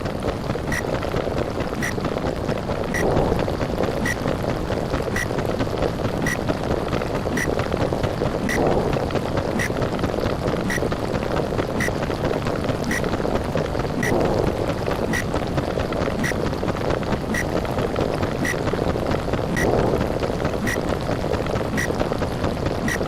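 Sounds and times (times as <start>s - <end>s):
muffled bubbling underwater water: 0.0s - 23.0s.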